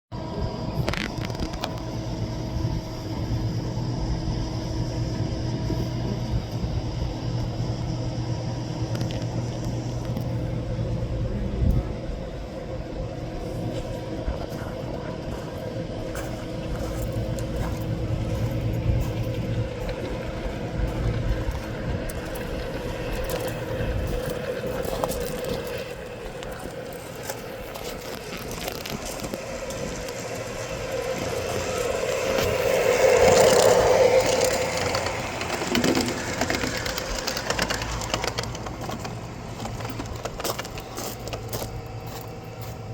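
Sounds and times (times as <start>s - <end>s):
model train running on track: 0.2s - 42.9s.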